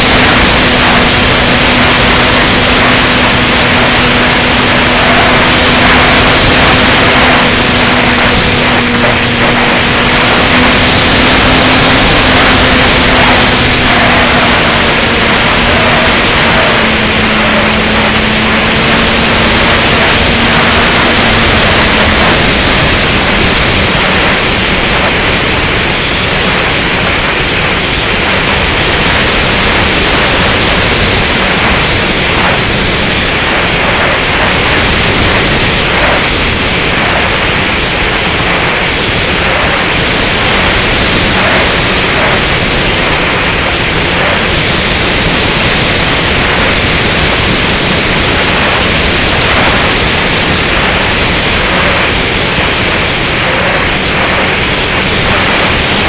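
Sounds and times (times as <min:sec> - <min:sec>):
electric motor and propeller hum: 0:00.0 - 0:56.0
wind rush on microphone: 0:00.0 - 0:56.0.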